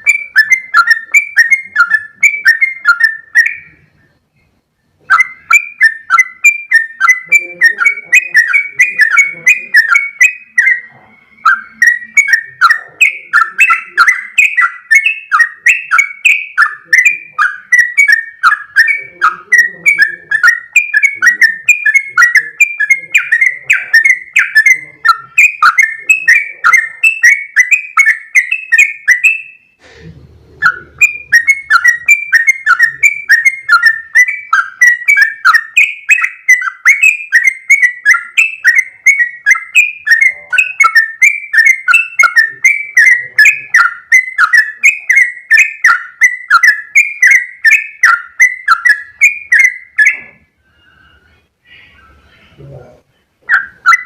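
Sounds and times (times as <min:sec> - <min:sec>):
bird singing bubbly chirps: 0:00.0 - 0:04.2, 0:05.0 - 0:29.8, 0:30.6 - 0:52.4.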